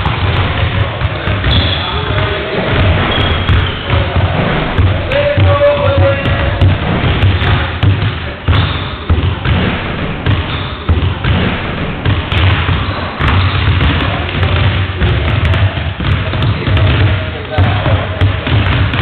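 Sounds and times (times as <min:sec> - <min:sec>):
basketballs bouncing on wooden floor: 0:00.0 - 0:19.0.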